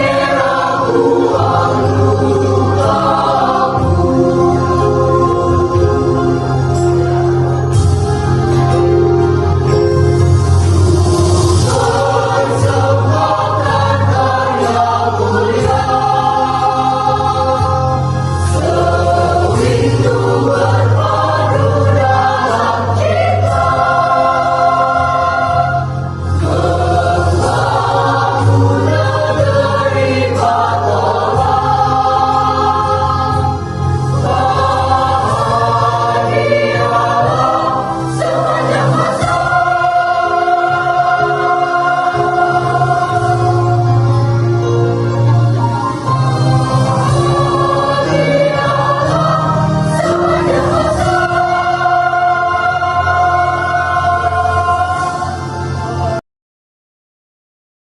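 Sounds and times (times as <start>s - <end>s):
choir singing in parts: 0.0s - 56.2s.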